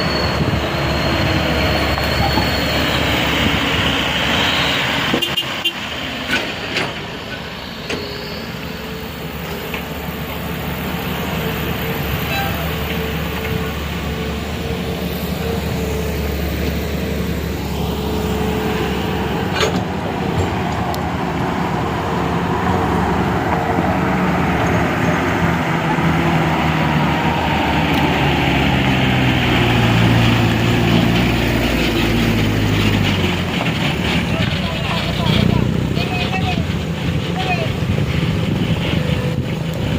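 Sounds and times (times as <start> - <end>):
large vehicle engine running: 0.0 - 39.9.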